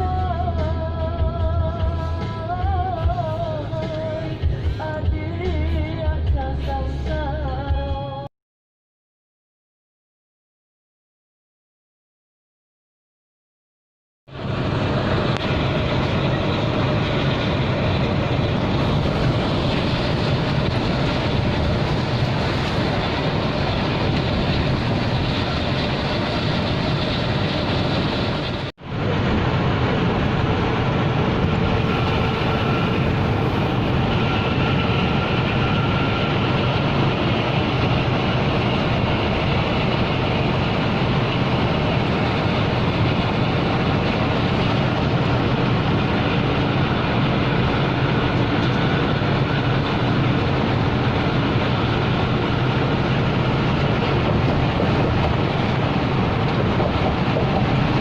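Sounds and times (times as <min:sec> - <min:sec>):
road noise: 0:00.0 - 0:07.6, 0:14.3 - 0:58.0
bus engine drone: 0:00.0 - 0:08.3, 0:14.3 - 0:58.0.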